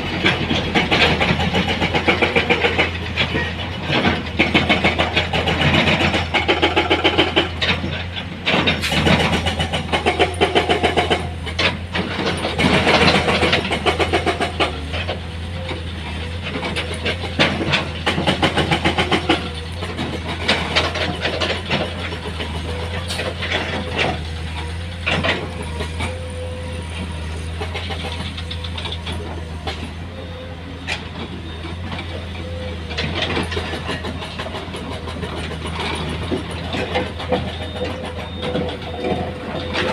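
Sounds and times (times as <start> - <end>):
heavy diesel engine running: 0.0 - 39.9
metal clanks and knocks: 0.1 - 30.0, 30.9 - 39.9.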